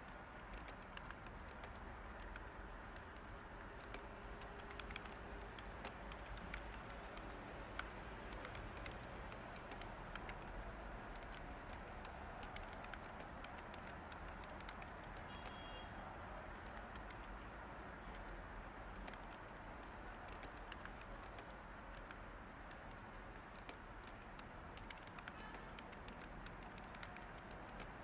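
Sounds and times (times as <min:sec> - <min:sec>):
computer keyboard typing: 0:00.0 - 0:15.8, 0:16.4 - 0:28.0.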